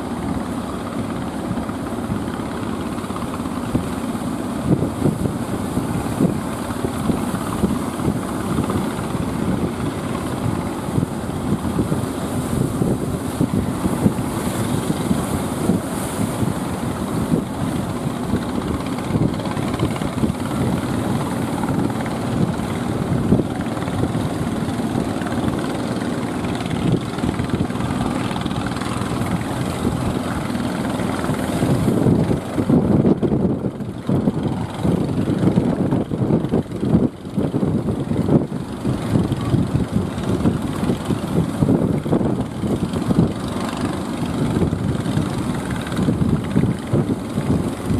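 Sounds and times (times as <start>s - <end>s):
boat engines motoring: 0.0s - 47.9s
breaking surf: 0.0s - 47.9s
wind rumbling on microphone: 0.0s - 47.9s.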